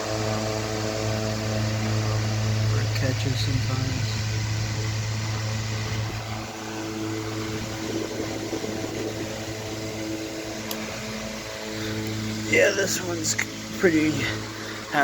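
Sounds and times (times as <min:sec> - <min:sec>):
electric fan motor hum: 0:00.0 - 0:15.0
fan blades rushing: 0:00.0 - 0:15.0.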